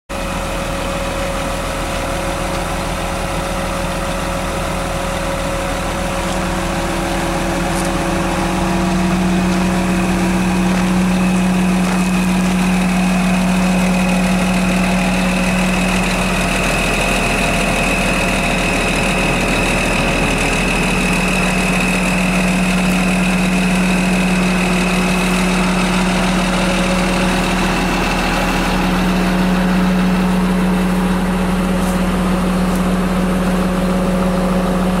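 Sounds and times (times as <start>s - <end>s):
diesel engine idling: 0.1s - 35.0s.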